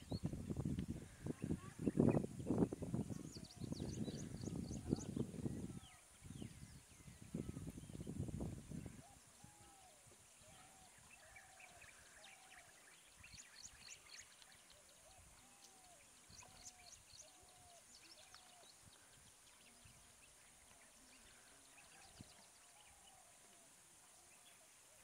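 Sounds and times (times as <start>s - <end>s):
birds chirping: 1.0s - 23.5s.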